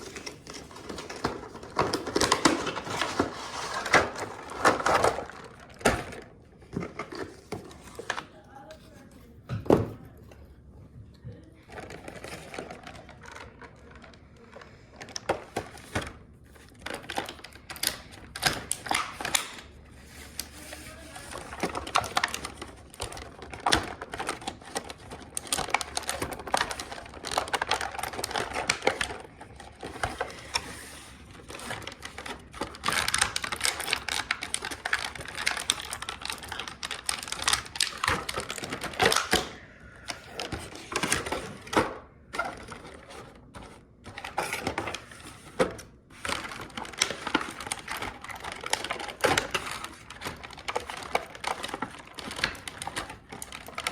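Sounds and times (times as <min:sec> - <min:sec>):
plastic and cardboard packaging crinkling: 0:00.0 - 0:09.4, 0:11.3 - 0:53.9.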